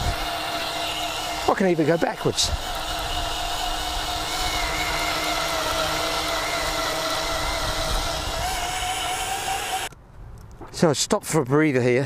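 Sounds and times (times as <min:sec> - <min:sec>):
cordless drill motor whine: 0:00.0 - 0:10.0.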